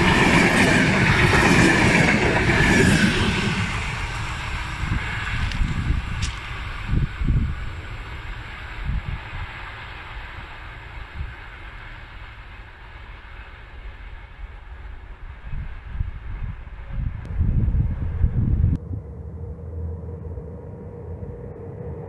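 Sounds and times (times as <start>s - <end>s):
wind buffeting microphone: 0.0s - 11.8s, 14.5s - 22.0s
train wheel-on-rail noise: 0.0s - 22.0s.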